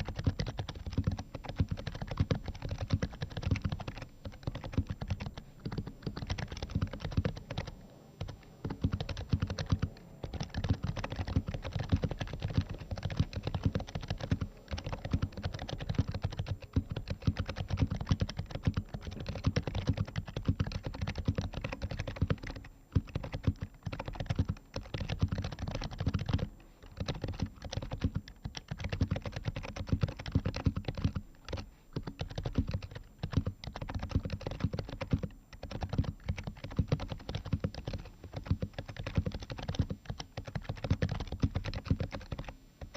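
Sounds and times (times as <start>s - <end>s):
soft keyboard typing: 0.0s - 42.9s.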